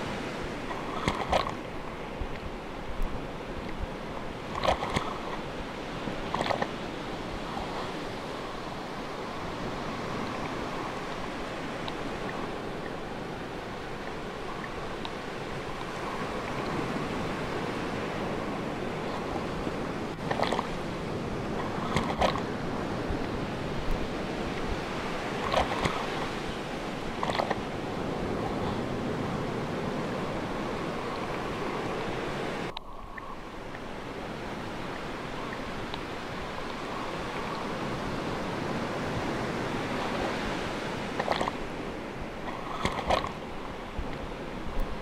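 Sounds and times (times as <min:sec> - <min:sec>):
waves washing: 0:00.0 - 0:45.0.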